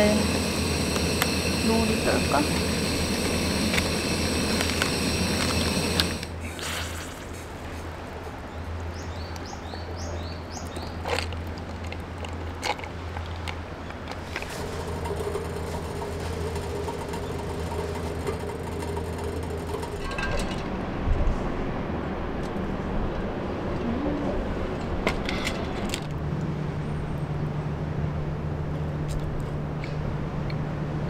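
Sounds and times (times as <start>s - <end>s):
steady low hum: 0.0s - 9.7s, 12.9s - 31.0s.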